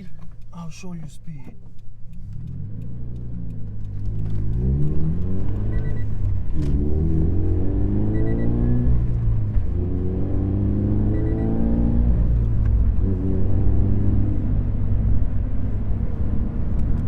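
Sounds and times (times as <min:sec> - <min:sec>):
car engine accelerating through gears: 0:01.6 - 0:17.0.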